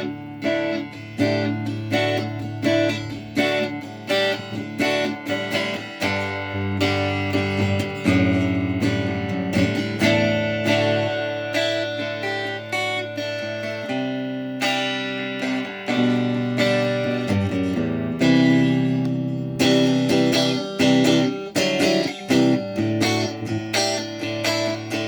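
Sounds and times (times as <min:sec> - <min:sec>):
electric guitar chords and notes: 0:00.0 - 0:25.0.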